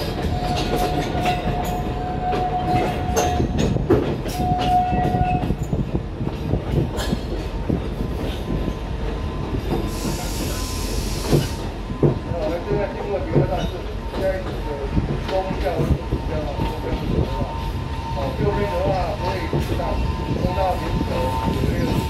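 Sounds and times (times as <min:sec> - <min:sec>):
train rumbling inside carriage: 0:00.0 - 0:22.0.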